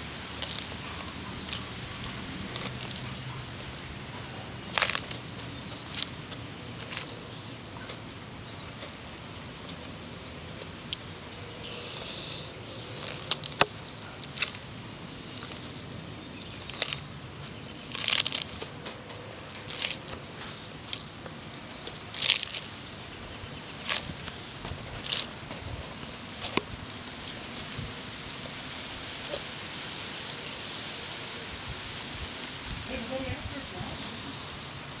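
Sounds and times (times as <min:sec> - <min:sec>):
tortoise crunching lettuce: 0:00.0 - 0:34.8.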